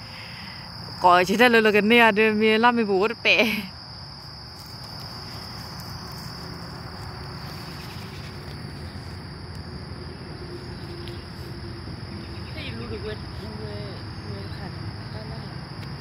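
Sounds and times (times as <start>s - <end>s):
insects trilling: 0.0s - 16.0s
low background hum: 0.0s - 16.0s.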